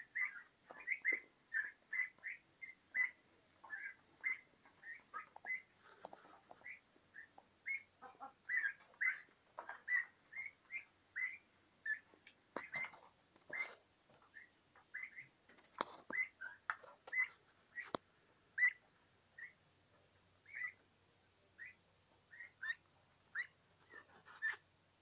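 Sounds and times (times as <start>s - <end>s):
young turkeys peeping: 0.0s - 24.8s.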